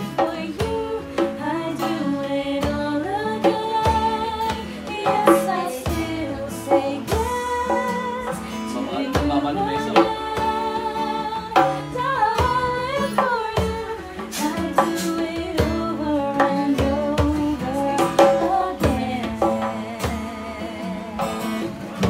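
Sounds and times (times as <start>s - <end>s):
hand drum: 0.0s - 22.0s
strummed acoustic guitar: 0.0s - 22.0s
woman singing: 0.0s - 22.0s.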